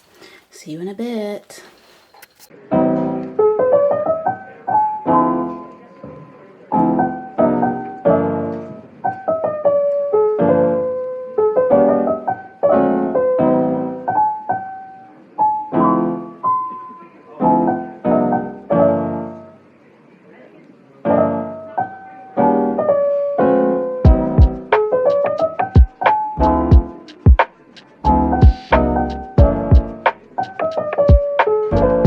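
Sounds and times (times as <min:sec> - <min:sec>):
piano music: 0:02.5 - 0:19.6, 0:21.1 - 0:32.0.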